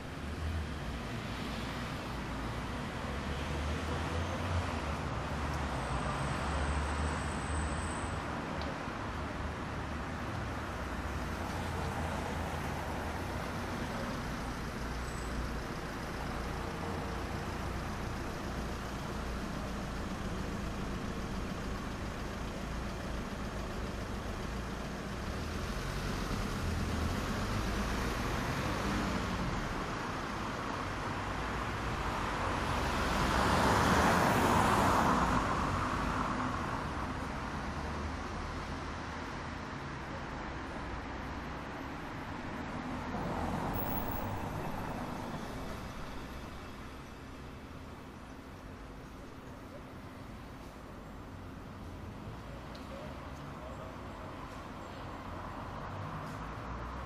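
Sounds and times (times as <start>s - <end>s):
cars driving past: 0.0s - 48.0s, 51.3s - 57.0s.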